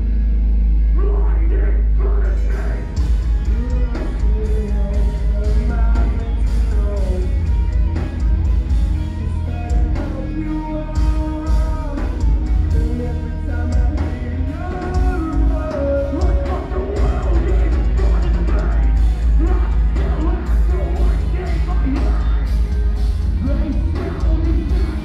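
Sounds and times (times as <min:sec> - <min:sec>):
person singing lead vocals: 0:00.0 - 0:25.0
rock band playing live: 0:00.0 - 0:25.0.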